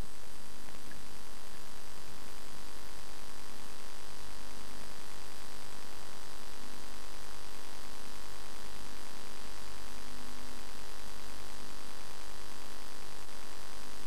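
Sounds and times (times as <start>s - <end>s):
low mains hum: 0.0s - 14.0s
tape hiss: 0.0s - 14.0s.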